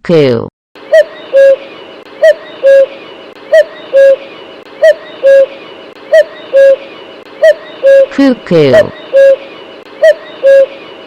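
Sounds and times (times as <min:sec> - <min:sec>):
cuckoo calling: 0:00.8 - 0:11.0.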